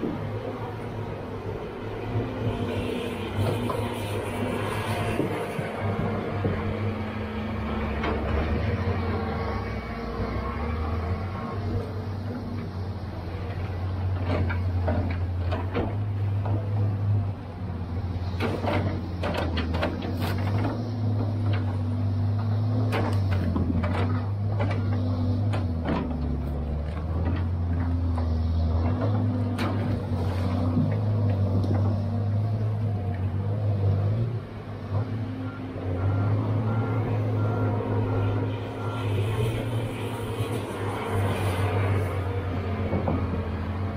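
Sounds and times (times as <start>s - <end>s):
diesel engine under load: 0.0s - 43.9s.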